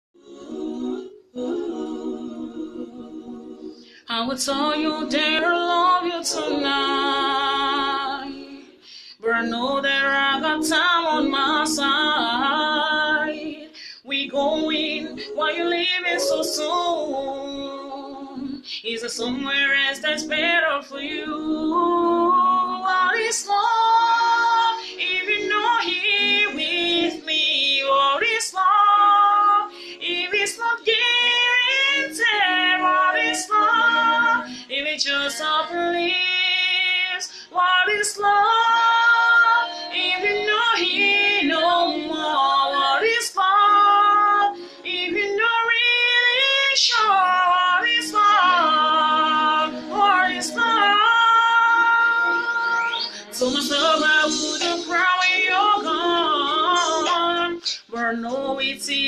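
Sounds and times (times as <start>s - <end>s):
woman singing: 4.1s - 8.6s, 9.2s - 59.0s.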